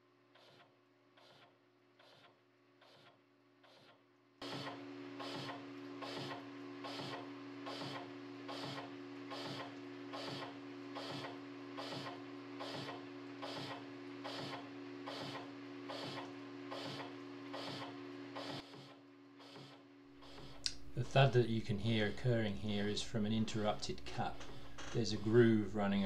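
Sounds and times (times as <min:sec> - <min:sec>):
lathe drive hum: 0:04.4 - 0:26.0.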